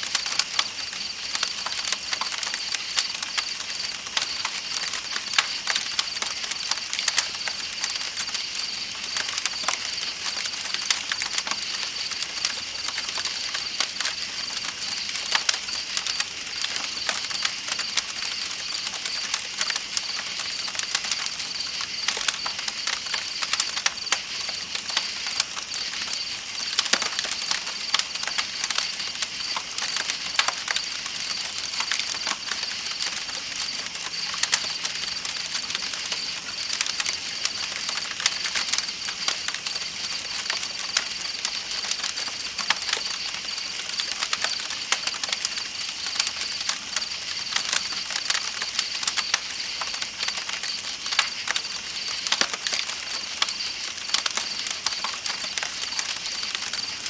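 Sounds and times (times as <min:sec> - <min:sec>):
night insects trilling: 0:00.0 - 0:57.0
campfire crackling and popping: 0:00.1 - 0:57.0.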